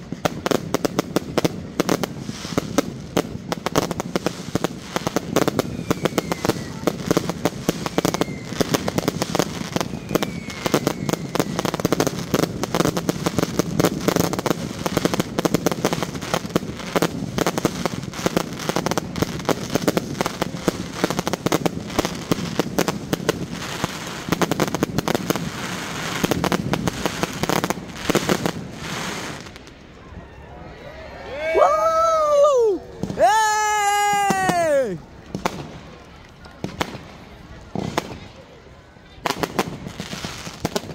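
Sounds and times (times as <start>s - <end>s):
fireworks crackling: 0.0s - 30.1s, 31.6s - 40.9s.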